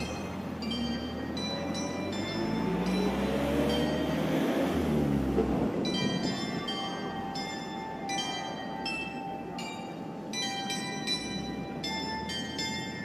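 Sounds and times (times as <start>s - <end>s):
bell-like chime melody: 0.0s - 4.4s, 5.8s - 13.0s
street traffic noise: 0.0s - 13.0s.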